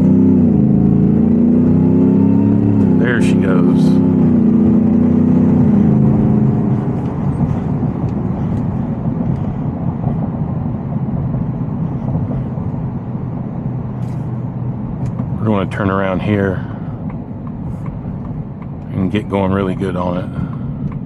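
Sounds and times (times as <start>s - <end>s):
road noise: 0.0s - 21.0s
truck engine accelerating: 0.0s - 21.0s.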